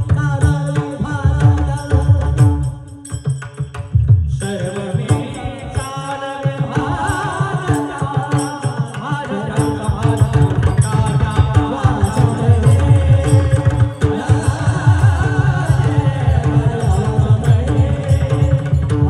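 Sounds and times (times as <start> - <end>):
person singing devotional song: 0.0 - 3.4, 4.3 - 19.0
fast hand drum strokes: 0.0 - 19.0.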